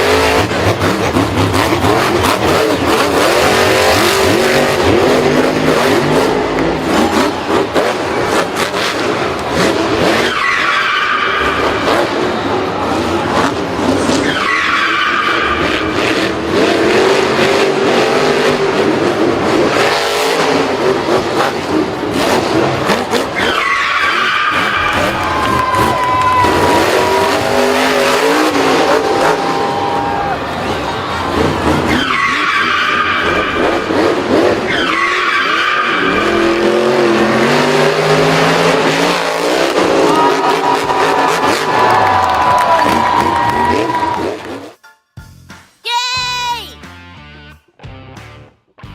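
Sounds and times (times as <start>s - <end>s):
racing engines revving: 0.0s - 44.8s
tyres skidding: 0.0s - 44.8s.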